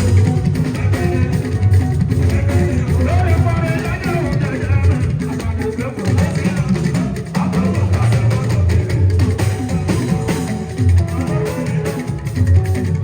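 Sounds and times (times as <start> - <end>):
drums and percussion: 0.0 - 13.0
guitar: 0.0 - 13.0.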